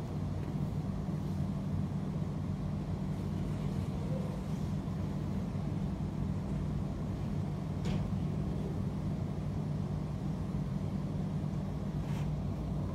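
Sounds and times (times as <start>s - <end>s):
fans and air conditioner hum: 0.0s - 12.9s.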